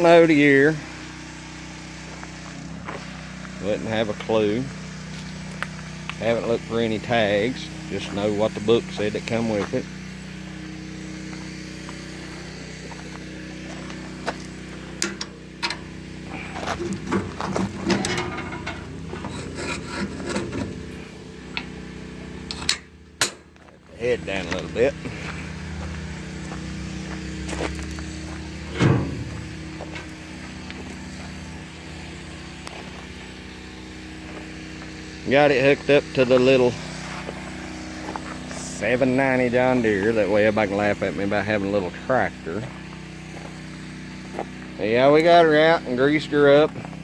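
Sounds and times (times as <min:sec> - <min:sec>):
tractor diesel engine idling: 0:00.0 - 0:47.0.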